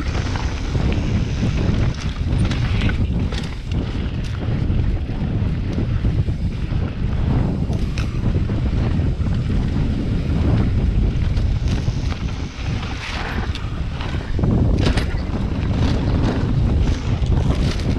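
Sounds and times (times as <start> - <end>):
bike rattling: 0.0 - 17.9
wind buffeting microphone: 0.0 - 17.9.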